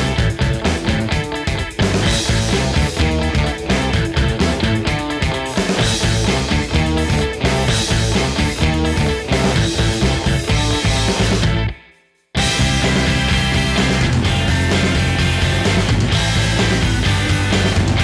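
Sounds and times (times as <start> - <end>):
rock music with guitar and beat: 0.0 - 18.0.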